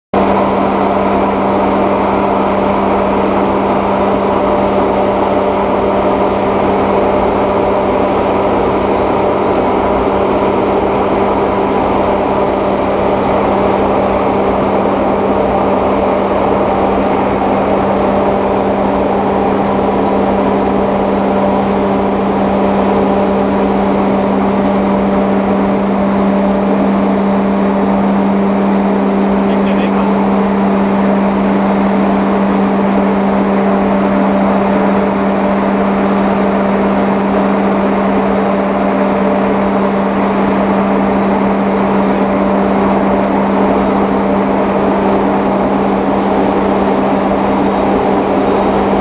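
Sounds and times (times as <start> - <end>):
ship machinery humming: 0.2 - 49.0
wind and sea rushing: 0.2 - 49.0.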